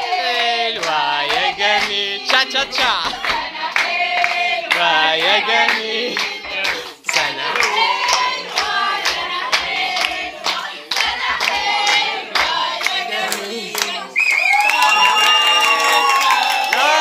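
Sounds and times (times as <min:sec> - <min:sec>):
group of people singing: 0:00.0 - 0:14.3.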